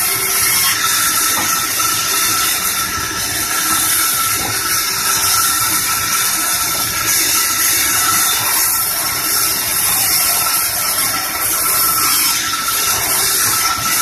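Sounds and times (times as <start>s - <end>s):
bandsaw blade cutting wood: 0.0s - 14.0s.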